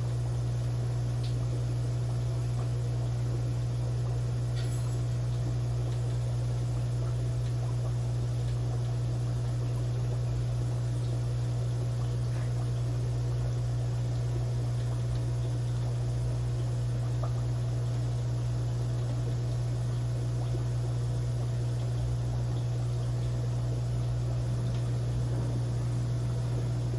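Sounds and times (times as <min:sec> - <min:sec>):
aquarium equipment humming: 0:00.0 - 0:26.9.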